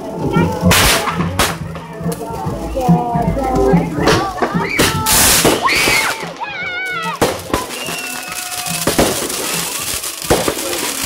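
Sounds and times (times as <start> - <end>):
fireworks crackling: 0.0 - 11.0
music: 0.0 - 11.0
firework bangs: 0.4 - 2.1, 3.7 - 11.0.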